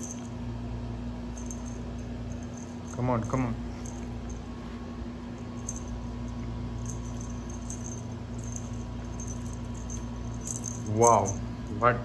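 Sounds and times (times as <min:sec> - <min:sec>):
small bell jingling: 0:00.0 - 0:00.4, 0:01.3 - 0:04.6, 0:05.3 - 0:12.0
steady low hum: 0:00.0 - 0:12.0.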